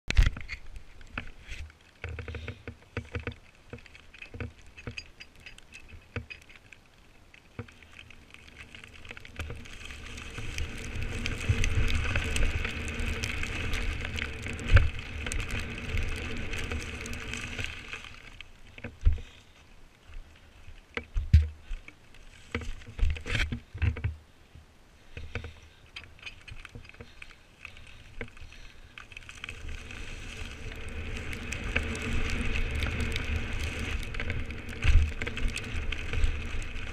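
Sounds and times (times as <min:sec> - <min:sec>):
bike tyre rumble and rattle: 0:00.0 - 0:24.3, 0:25.0 - 0:36.9.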